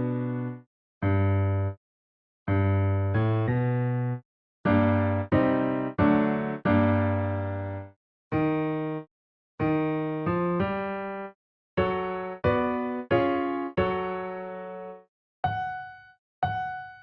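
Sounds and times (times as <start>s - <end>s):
electric piano chords: 0.0s - 1.7s, 2.5s - 17.0s.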